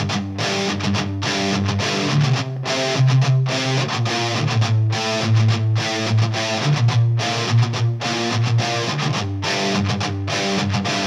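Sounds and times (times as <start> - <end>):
rock music with electric guitar: 0.0 - 11.0.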